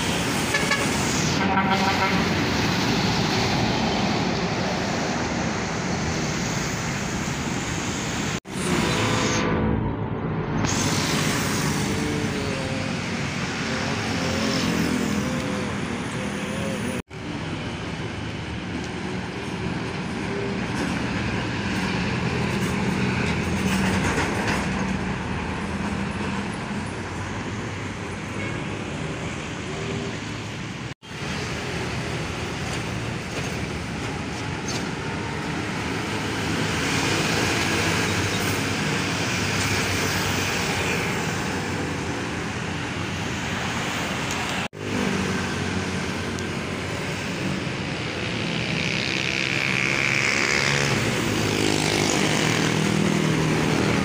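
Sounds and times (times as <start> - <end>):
engine drone and tyre noise: 0.0 - 54.0
heavy trucks passing: 0.0 - 54.0.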